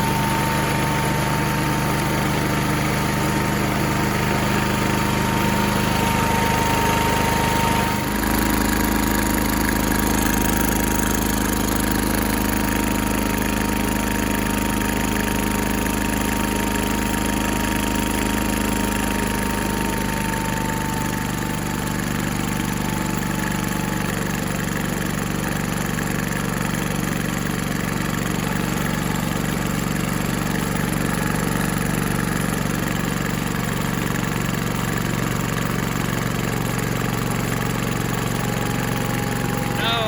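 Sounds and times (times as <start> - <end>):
garden tractor engine running: 0.0 - 40.0.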